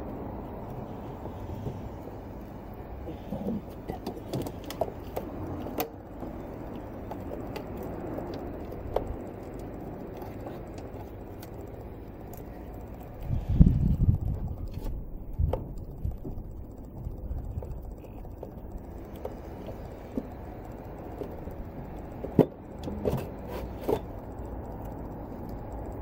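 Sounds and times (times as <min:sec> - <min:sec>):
low background rumble: 0:00.0 - 0:26.0
small clicks and light knocks: 0:00.0 - 0:26.0.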